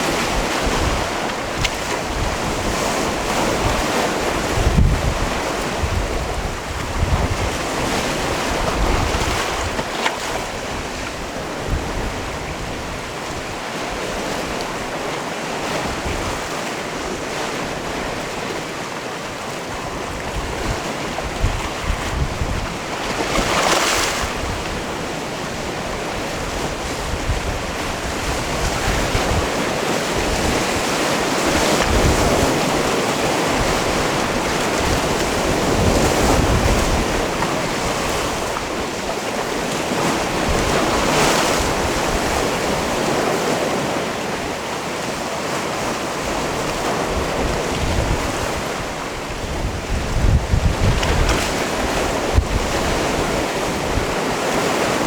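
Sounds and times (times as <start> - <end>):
wind buffeting microphone: 0.0 - 18.6, 19.7 - 44.6, 45.8 - 55.0.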